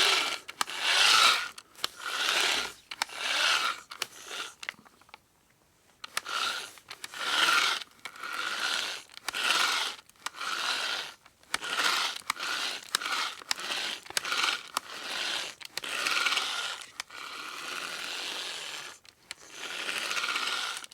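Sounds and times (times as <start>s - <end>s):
drill bit rasping: 0.0s - 4.7s, 6.1s - 20.9s
hand drill cranking: 0.0s - 4.8s, 6.0s - 20.9s.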